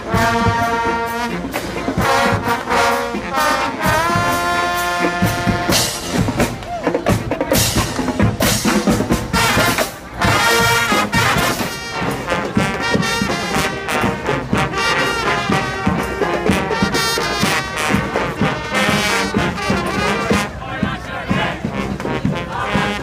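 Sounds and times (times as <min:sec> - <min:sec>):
brass band playing: 0:00.0 - 0:23.0.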